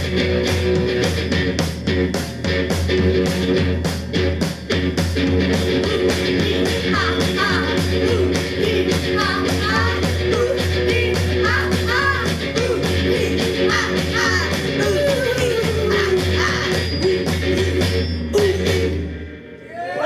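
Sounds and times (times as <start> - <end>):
electric guitar: 0.0 - 20.0.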